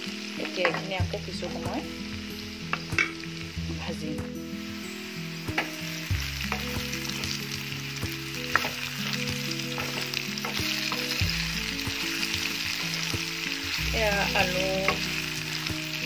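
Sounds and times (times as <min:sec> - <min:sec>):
potato wedges sizzling in oil: 0:00.0 - 0:16.0
soft background music: 0:00.0 - 0:16.0.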